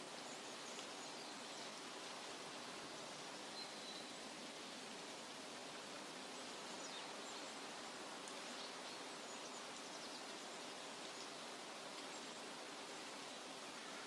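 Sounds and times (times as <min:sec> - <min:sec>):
steady forest hiss: 0:00.0 - 0:14.0.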